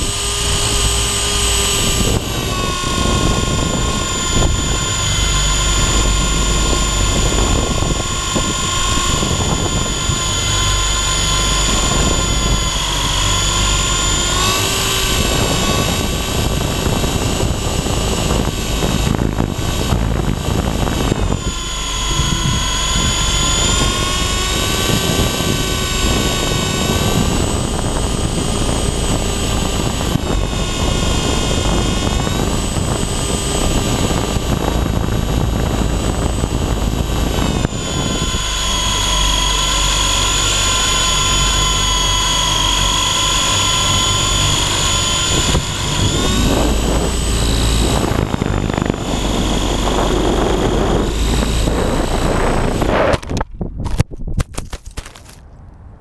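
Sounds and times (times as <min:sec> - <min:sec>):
rotor wash rushing: 0:00.0 - 0:53.1
high motor whine: 0:00.0 - 0:54.0.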